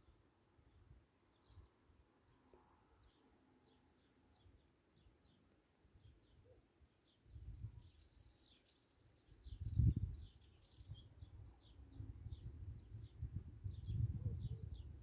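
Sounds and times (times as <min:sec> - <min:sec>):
small birds chirping: 0:00.7 - 0:15.0.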